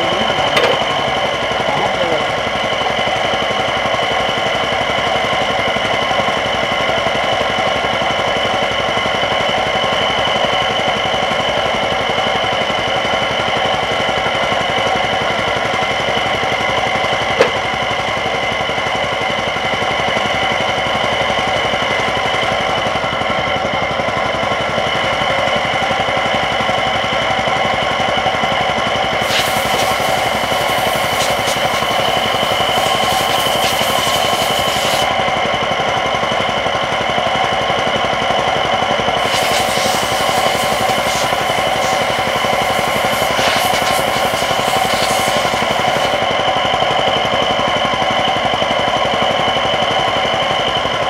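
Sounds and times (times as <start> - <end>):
engine running: 0.0 - 51.0
steady whine: 0.0 - 51.0.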